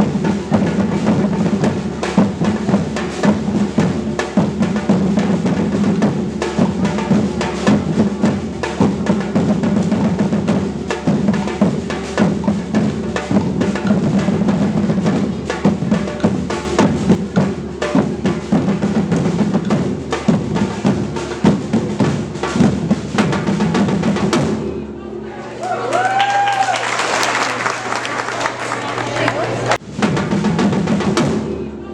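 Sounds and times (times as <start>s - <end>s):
drums playing fast rhythm: 0.0s - 25.2s, 29.2s - 31.9s
steady low drum tone: 0.0s - 25.4s, 29.8s - 31.9s.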